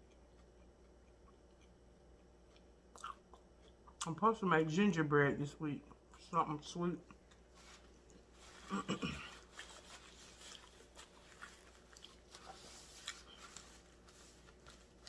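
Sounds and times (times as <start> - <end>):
person chewing: 0.0 - 4.2, 7.0 - 15.0
low room hum: 0.0 - 15.0.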